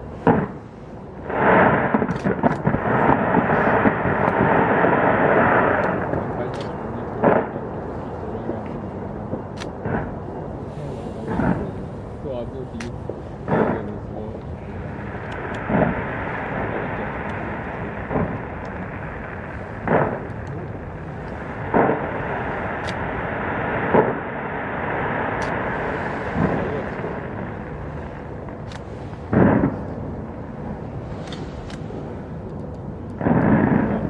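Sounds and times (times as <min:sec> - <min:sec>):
fireworks booming: 0:00.0 - 0:32.5, 0:33.1 - 0:34.0
faint crackles: 0:00.0 - 0:34.0
steady background noise: 0:00.0 - 0:34.0.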